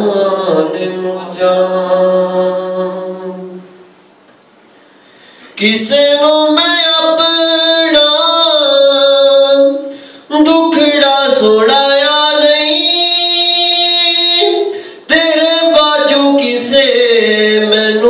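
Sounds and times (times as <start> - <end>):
man singing into a microphone: 0.0 - 3.7, 5.6 - 18.0.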